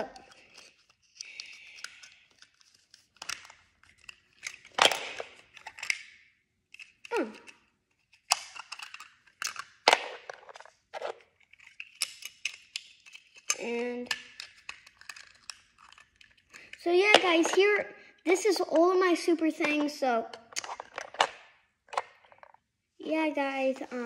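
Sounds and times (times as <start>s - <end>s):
plastic boxes on wooden floor: 0.0s - 18.9s, 19.6s - 22.7s.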